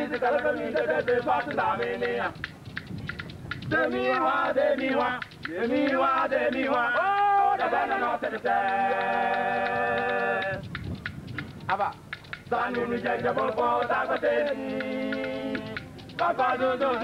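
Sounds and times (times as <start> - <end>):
men singing a chant: 0.0 - 2.4, 3.7 - 10.6, 12.4 - 17.0
beaded calabash rattles clicking: 0.0 - 17.0.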